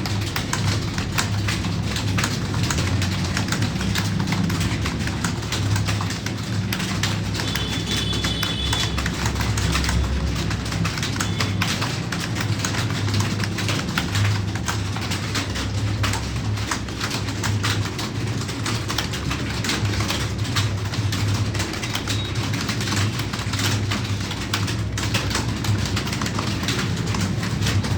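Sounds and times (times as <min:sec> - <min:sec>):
keyboard typing: 0:00.0 - 0:27.9.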